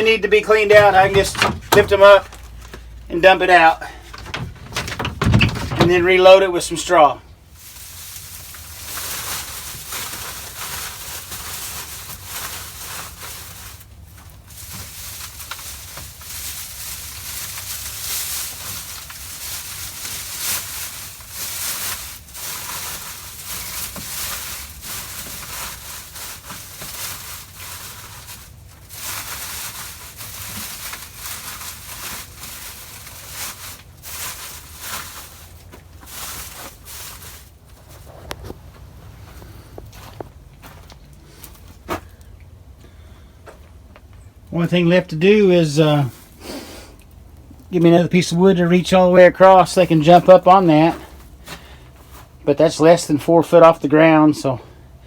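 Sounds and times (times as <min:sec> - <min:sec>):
dry straw rustling and crackling: 0:00.0 - 0:42.8, 0:43.4 - 0:54.6.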